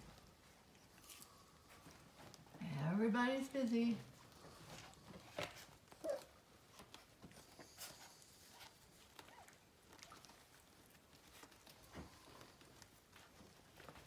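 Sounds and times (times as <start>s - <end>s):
puppies pawing on a blanket: 0.0s - 14.0s.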